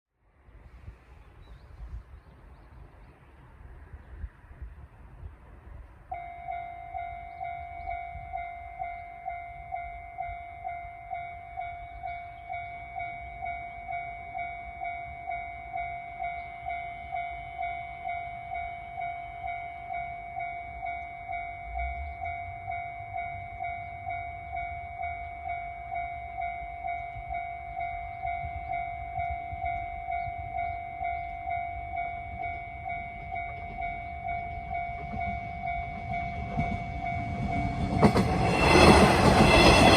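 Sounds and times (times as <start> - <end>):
low train rumble: 0.2 - 39.9
level crossing alarm ringing: 6.1 - 39.9.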